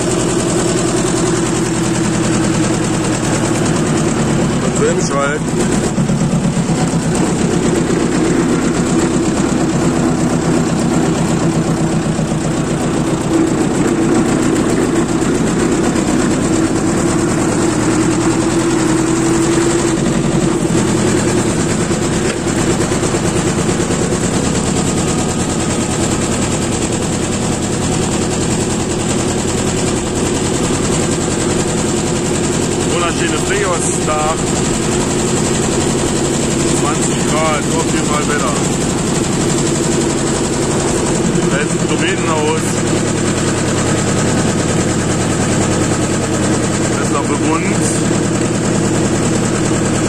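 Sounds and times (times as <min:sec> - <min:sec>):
tractor engine chugging: 0:00.0 - 0:50.0.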